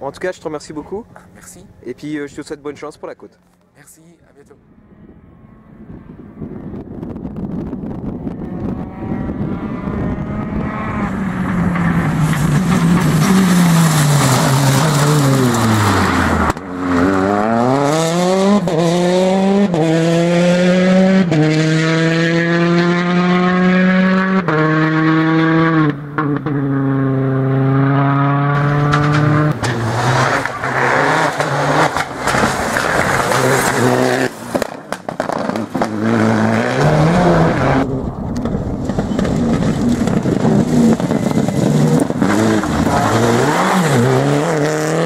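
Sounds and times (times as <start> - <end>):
rally car engine revving: 4.9 - 45.0.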